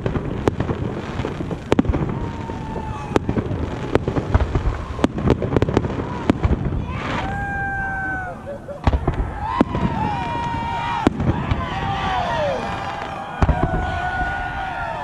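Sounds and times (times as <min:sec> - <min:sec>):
crackling bursts: 0:00.0 - 0:14.8.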